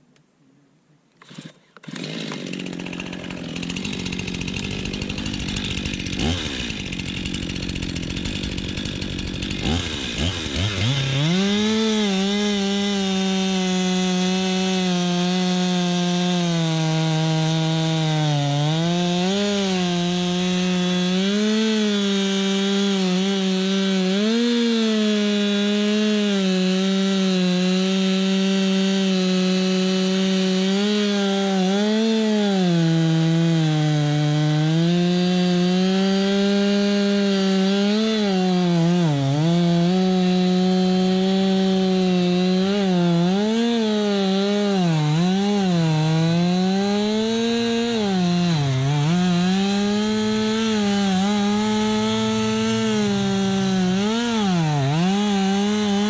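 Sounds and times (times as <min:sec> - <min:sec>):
chainsaw revving and cutting wood: 0:01.2 - 0:56.0.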